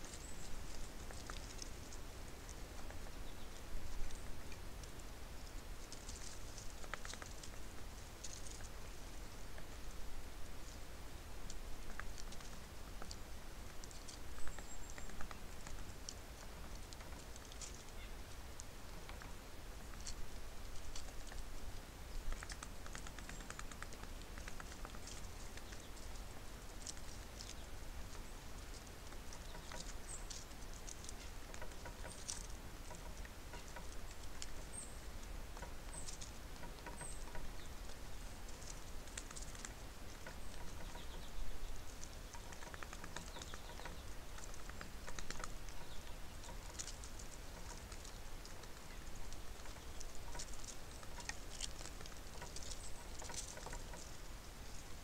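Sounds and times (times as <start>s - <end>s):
beaks tapping and scratching: 0.0s - 55.0s
birds chirping: 0.0s - 55.0s.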